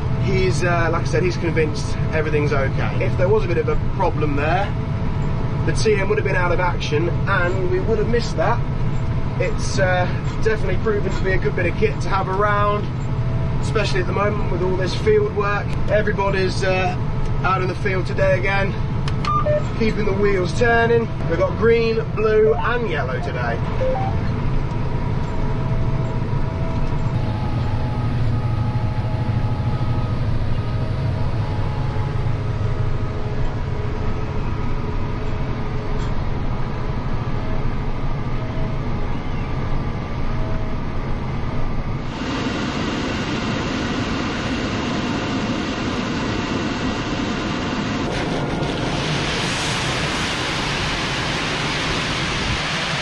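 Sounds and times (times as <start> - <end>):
faint steady whines: 0.0 - 53.0
tractor engine droning: 0.0 - 53.0.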